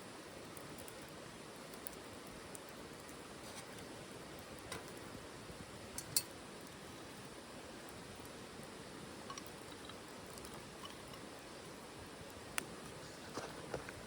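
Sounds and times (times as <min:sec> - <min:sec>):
wood fire hissing and crackling: 0:00.0 - 0:14.0
wood fire snap: 0:00.2 - 0:14.0.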